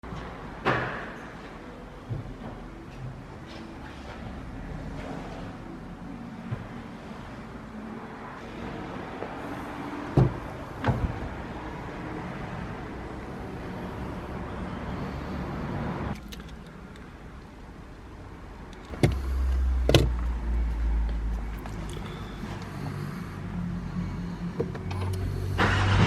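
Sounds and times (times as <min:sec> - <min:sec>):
diesel engine starting and idling: 0:00.1 - 0:26.0.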